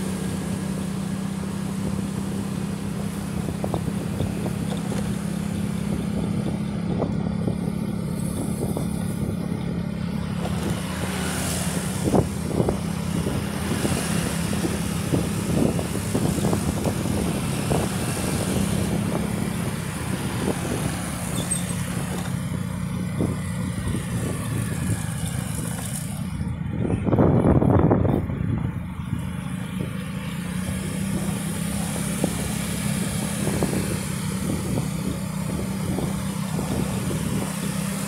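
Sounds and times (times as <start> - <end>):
motorcycle engine cruising: 0.0 - 38.0
wind noise: 0.0 - 38.0.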